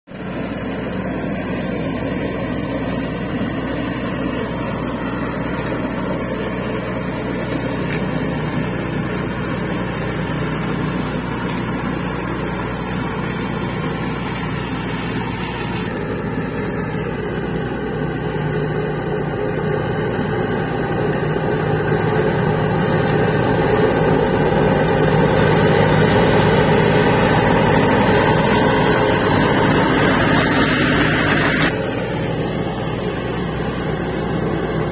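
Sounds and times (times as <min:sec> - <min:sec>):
mower diesel engine running: 0:00.0 - 0:34.9.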